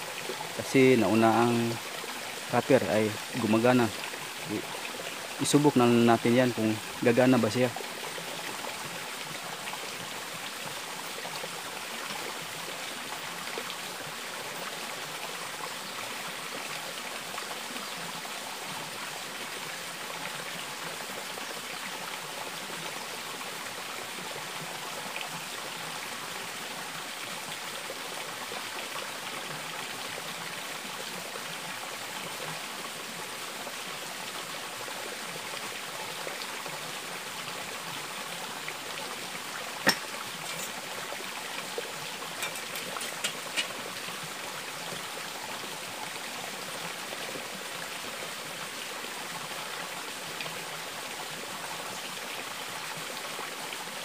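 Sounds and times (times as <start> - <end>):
water running over rocks: 0.0 - 54.0.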